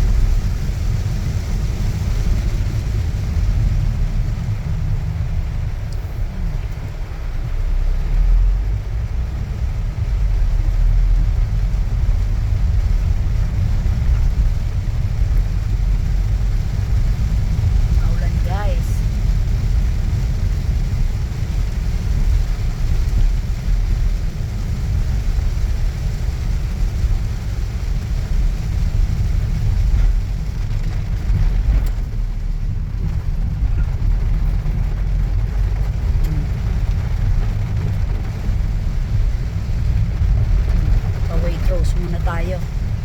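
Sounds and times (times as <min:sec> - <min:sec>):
car engine and tyres rumbling: 0:00.0 - 0:43.0
heavy rain: 0:00.0 - 0:43.0.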